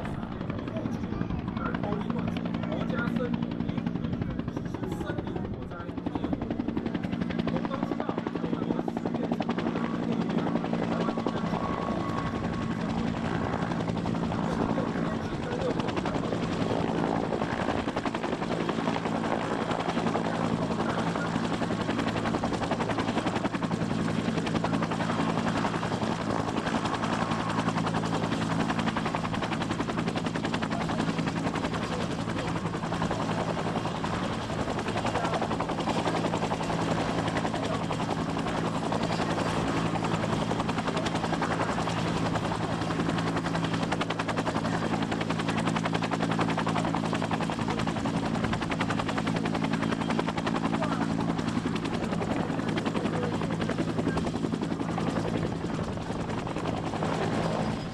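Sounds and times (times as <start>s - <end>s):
helicopter turbine and rotor chop: 0.0s - 57.9s.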